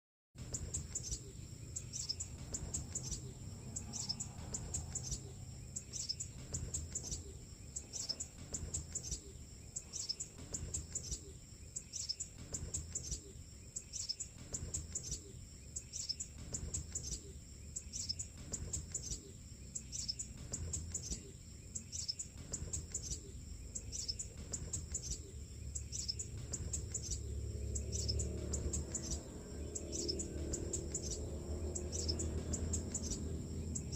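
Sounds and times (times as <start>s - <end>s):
bird chirping: 0.4s - 33.9s.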